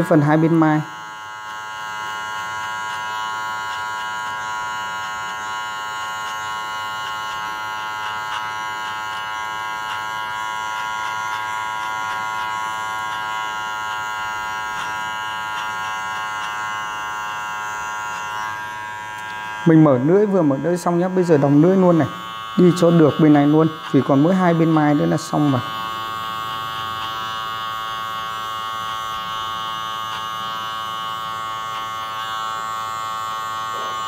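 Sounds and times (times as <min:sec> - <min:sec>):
electric hair clippers buzzing: 0:00.0 - 0:34.0.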